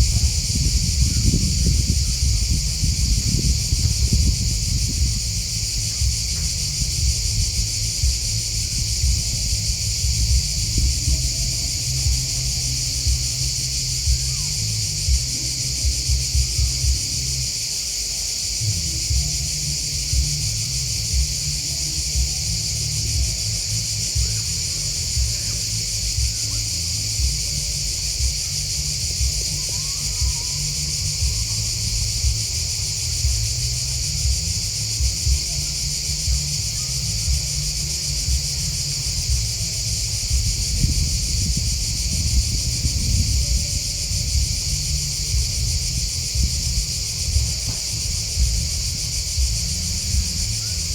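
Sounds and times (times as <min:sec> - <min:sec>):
low rumble with bumps: 0:00.0 - 0:17.5, 0:18.6 - 0:50.9
insects chirping: 0:00.0 - 0:50.9.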